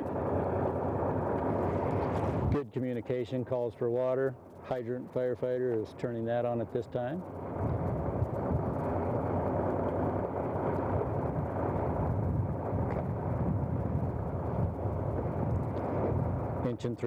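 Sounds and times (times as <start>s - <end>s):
fire engine pump rumble: 0.0s - 17.0s.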